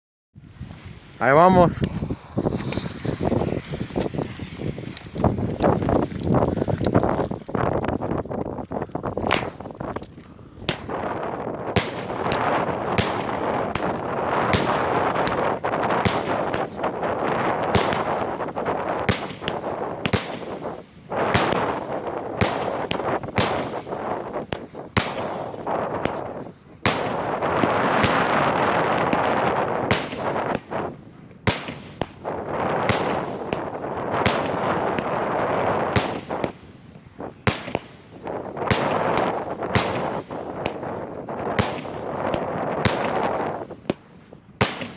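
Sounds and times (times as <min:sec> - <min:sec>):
firework crackle and hiss: 0:00.4 - 0:44.9
firework bangs: 0:00.6 - 0:44.9.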